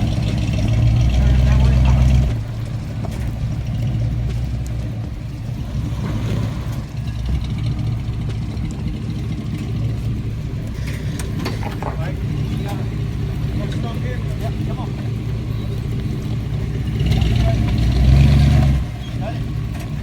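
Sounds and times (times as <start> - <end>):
deep engine running: 0.0 - 20.0.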